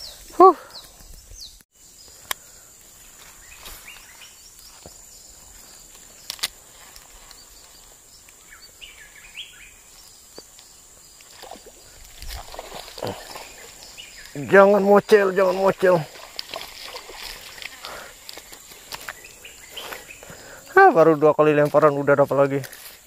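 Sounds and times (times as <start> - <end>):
birds chirping: 0.0 - 23.0
high-pitched insect drone: 1.8 - 22.8.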